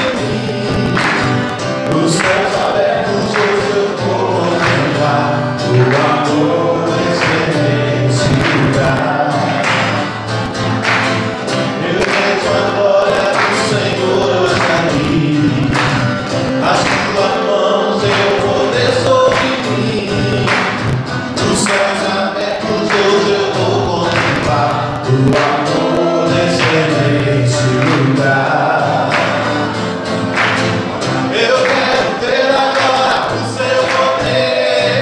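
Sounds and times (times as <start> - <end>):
hand claps: 0.0 - 6.4, 7.0 - 35.0
man singing: 0.0 - 10.2, 11.5 - 29.8, 31.0 - 35.0
acoustic guitar strumming: 0.0 - 35.0
many voices singing along: 0.0 - 35.0.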